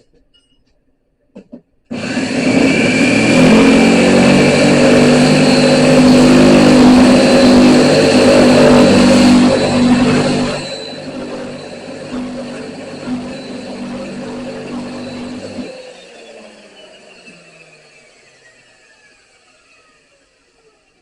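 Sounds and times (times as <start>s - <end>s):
power tool disc whining on metal: 1.9s - 21.0s.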